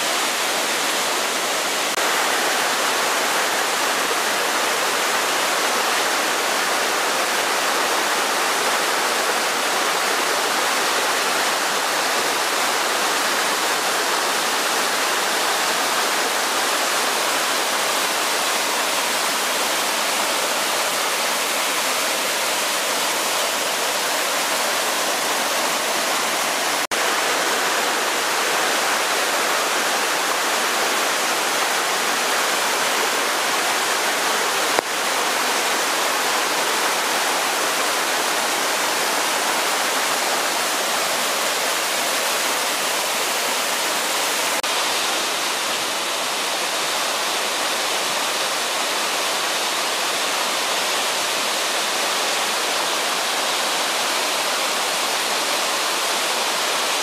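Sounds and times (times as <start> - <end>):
waterfall splashing over rocks: 0.0 - 57.0.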